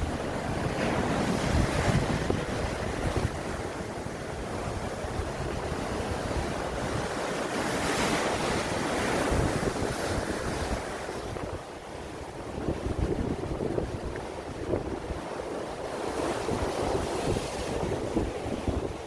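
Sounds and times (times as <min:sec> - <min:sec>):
sea waves surging and breaking: 0:00.0 - 0:19.0
wind buffeting microphone: 0:00.0 - 0:19.0.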